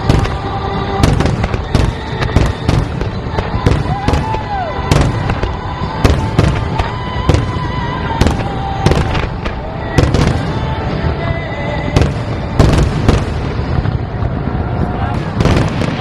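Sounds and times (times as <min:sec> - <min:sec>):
fireworks bursting in loud bangs: 0:00.0 - 0:11.2, 0:11.8 - 0:16.0
continuous low rumble: 0:00.0 - 0:16.0.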